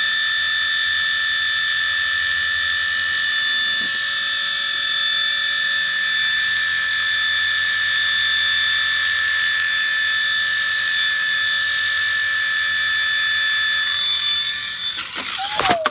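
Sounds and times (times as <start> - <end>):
toy helicopter rotors whining: 0.0 - 15.9.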